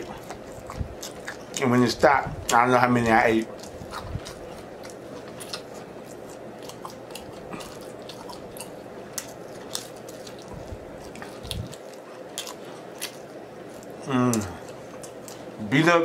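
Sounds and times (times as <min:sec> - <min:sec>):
man chewing wetly: 0:00.0 - 0:15.6.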